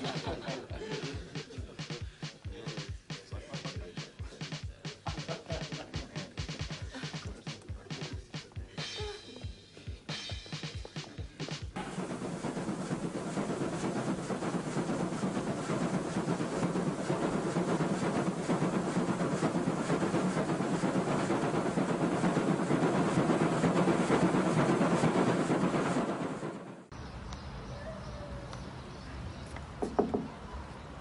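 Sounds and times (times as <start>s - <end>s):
steam locomotive exhaust: 0.0s - 27.0s.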